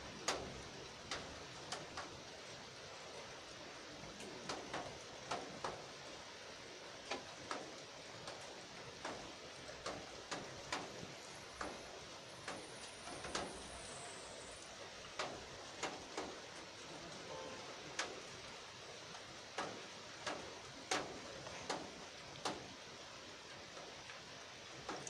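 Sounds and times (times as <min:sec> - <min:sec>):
rain hiss: 0:00.0 - 0:25.0.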